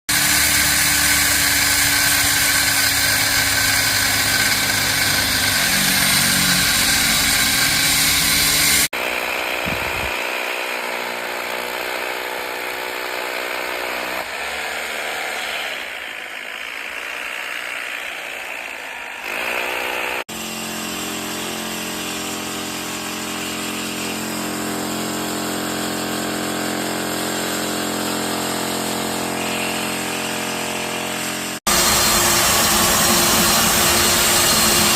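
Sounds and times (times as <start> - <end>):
concrete-cutting machinery running: 0.1 - 34.9.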